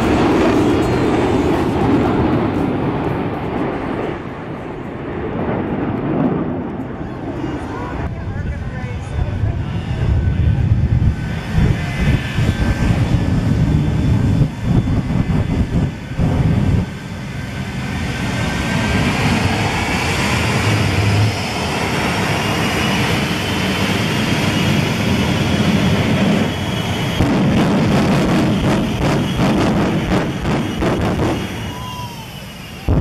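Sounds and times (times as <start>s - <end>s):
jet engine roaring: 0.0s - 33.0s.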